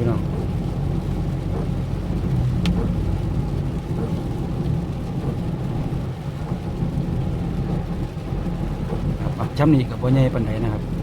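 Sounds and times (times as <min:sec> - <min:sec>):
vehicle on wet road: 0:00.0 - 0:11.0.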